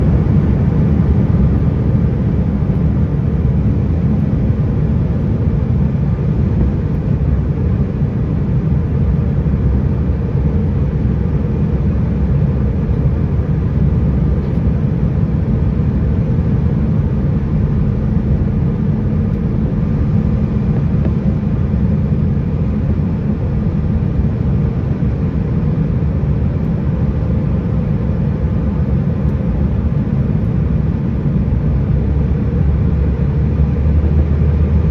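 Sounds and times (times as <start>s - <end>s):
airliner engine rumble in cabin: 0.0s - 34.9s.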